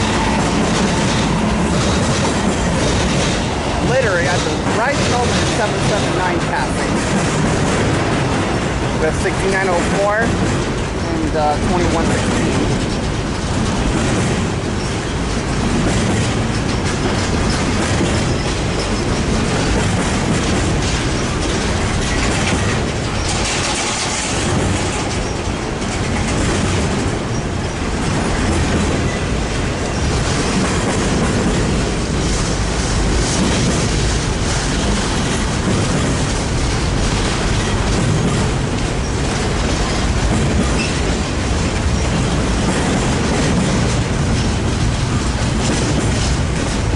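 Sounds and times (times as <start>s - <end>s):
train wheels clattering on rails: 0.0s - 46.9s.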